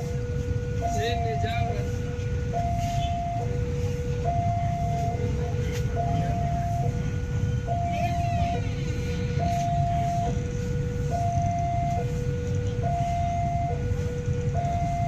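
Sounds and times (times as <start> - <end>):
two-tone crossing alarm: 0.0 - 15.0.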